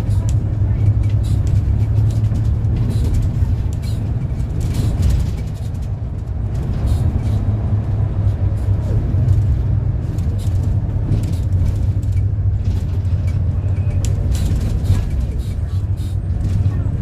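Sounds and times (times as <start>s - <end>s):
bus engine and road drone: 0.0s - 17.0s.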